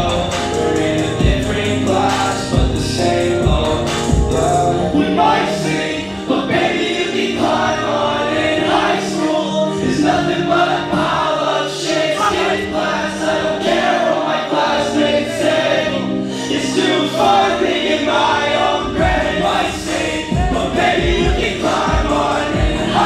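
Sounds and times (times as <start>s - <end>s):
live hip-hop song over sound system: 0.0s - 23.0s
several voices singing: 0.0s - 23.0s.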